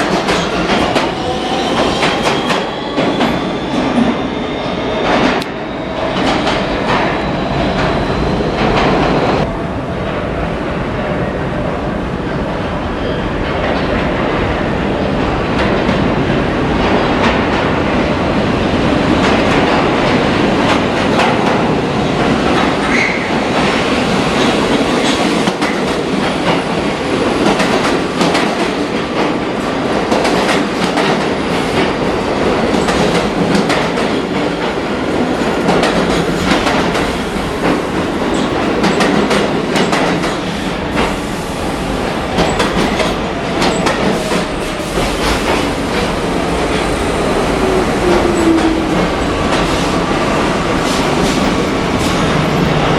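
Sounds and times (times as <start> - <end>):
subway train wheels clacking: 0.0 - 52.9
train rumble: 0.0 - 52.9.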